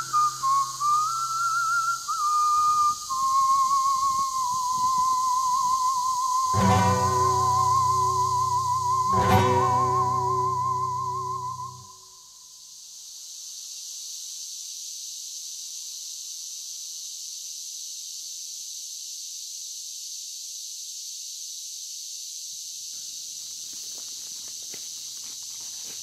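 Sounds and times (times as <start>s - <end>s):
night insects chorus: 0.0s - 26.0s.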